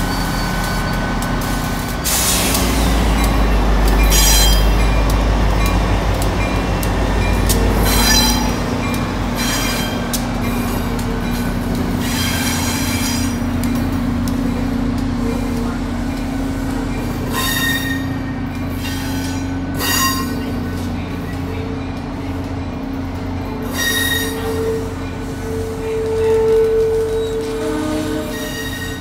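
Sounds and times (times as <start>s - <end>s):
diesel locomotive drone: 0.0s - 29.0s
rumble of train cars: 0.0s - 29.0s
wheels squealing on rails: 0.0s - 29.0s.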